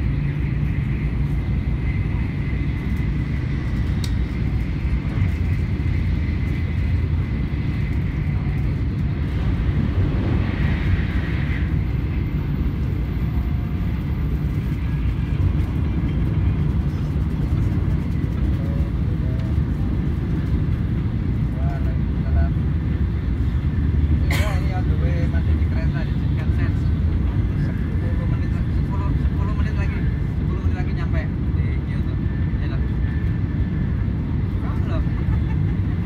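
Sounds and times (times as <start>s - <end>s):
train cabin low rumble: 0.0s - 36.0s.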